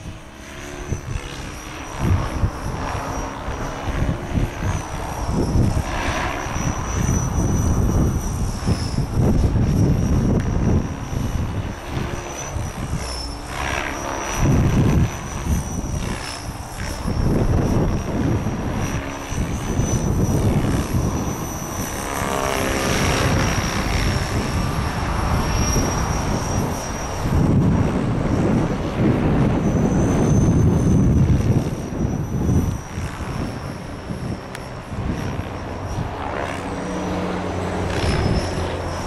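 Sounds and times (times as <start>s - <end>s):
model helicopter whine: 0.0s - 39.0s
wind buffeting microphone: 0.0s - 39.0s.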